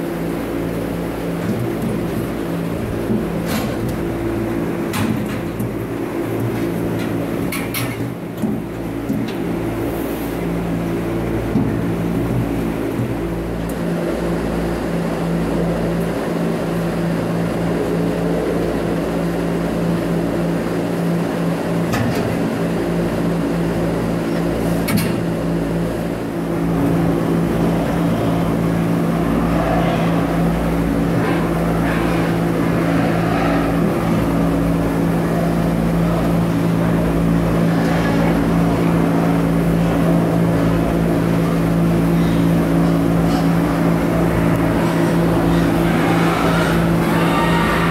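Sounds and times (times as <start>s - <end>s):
machine drone with low hum: 0.0s - 47.9s.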